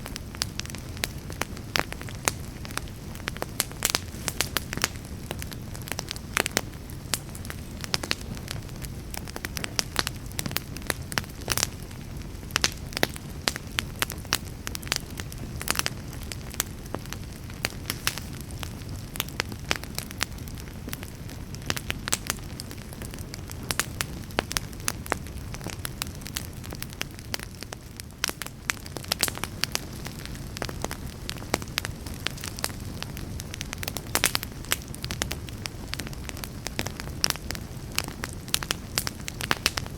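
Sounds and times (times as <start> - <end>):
fire flame rushing: 0.0 - 39.9
logs crackling and popping: 0.0 - 39.9.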